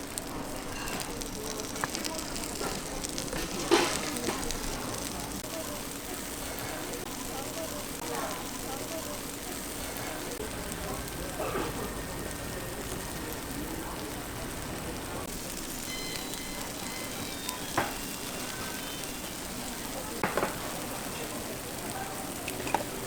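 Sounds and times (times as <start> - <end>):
batter sizzling in moulds: 0.0 - 23.0.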